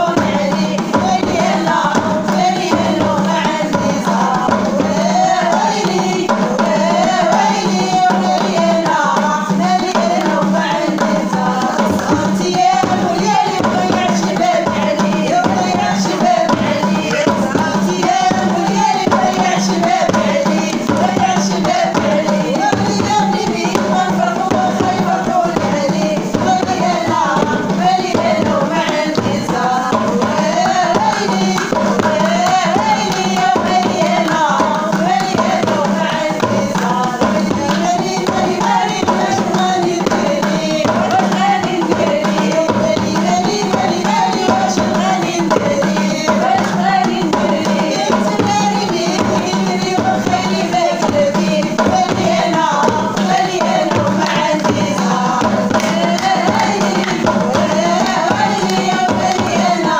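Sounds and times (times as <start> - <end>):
hand drums and tambourine: 0.0 - 59.9
person singing: 0.0 - 59.9.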